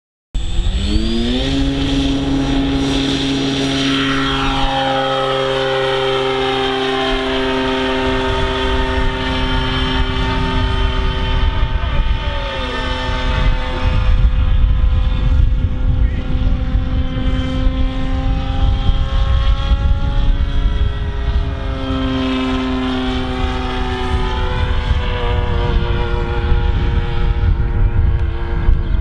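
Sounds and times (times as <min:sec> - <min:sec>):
model aircraft motor whine: 0:00.4 - 0:29.0.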